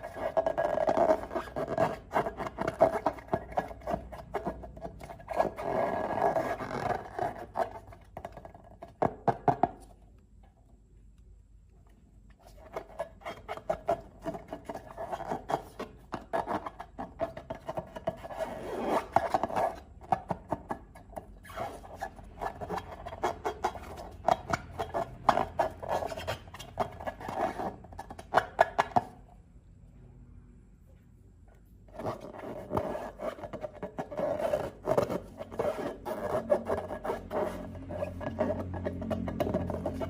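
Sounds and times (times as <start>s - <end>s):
rubbing and squeaking balloons: 0.0s - 9.1s, 12.4s - 29.1s, 31.9s - 40.0s.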